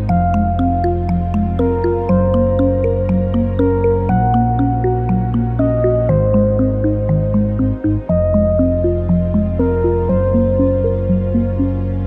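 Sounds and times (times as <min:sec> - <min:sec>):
calm new-age music: 0:00.0 - 0:12.0.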